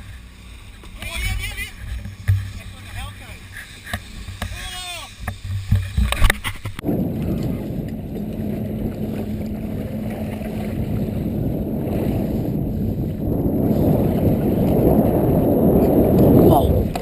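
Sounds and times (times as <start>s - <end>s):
boat engine running: 0.0s - 17.0s
water noise: 0.0s - 17.0s.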